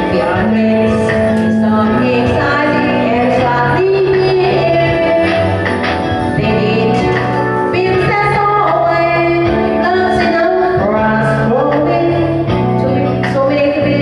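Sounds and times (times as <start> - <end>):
karaoke backing track: 0.0 - 14.0
woman singing into microphone: 0.0 - 14.0.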